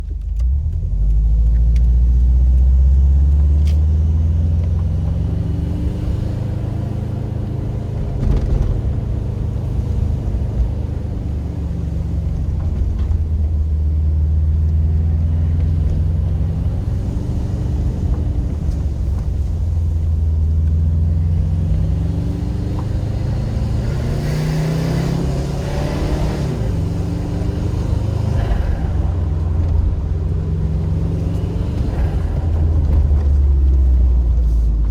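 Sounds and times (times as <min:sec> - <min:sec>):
car engine rumbling: 0:00.0 - 0:34.9.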